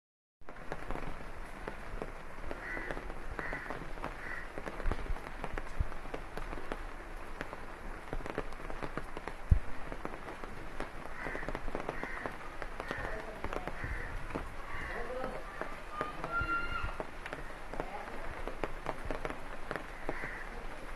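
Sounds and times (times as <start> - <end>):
rain falling on leaves: 0.4 - 20.9.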